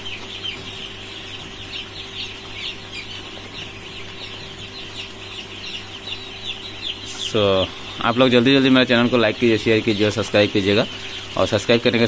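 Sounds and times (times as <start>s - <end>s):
chicks peeping: 0.0s - 12.0s
steady low hum: 0.0s - 12.0s.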